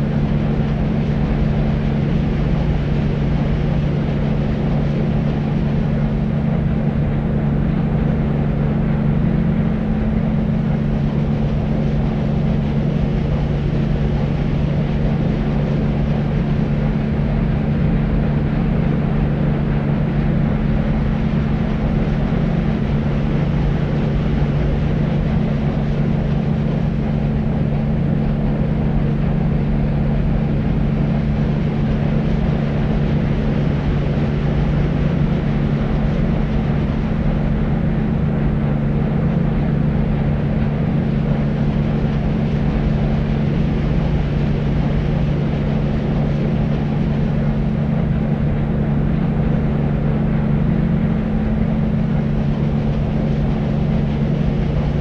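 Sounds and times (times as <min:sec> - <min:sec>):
deep white noise: 0:00.0 - 0:55.0
steady low hum: 0:00.0 - 0:55.0.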